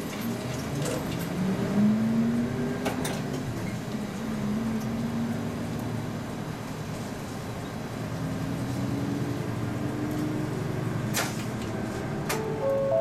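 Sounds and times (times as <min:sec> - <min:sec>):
bus diesel engine accelerating: 0:00.0 - 0:13.0
bus rattles: 0:00.0 - 0:13.0.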